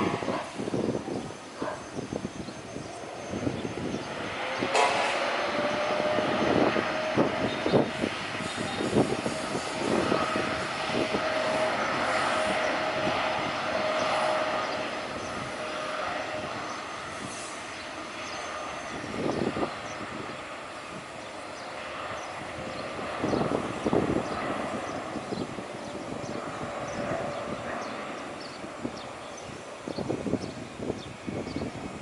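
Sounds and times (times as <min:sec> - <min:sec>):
jet engines with high whine: 0:00.0 - 0:32.0.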